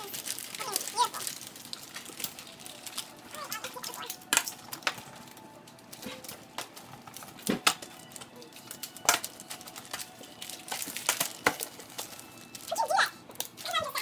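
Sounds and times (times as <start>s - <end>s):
wrapping paper crinkling: 0.0s - 14.0s.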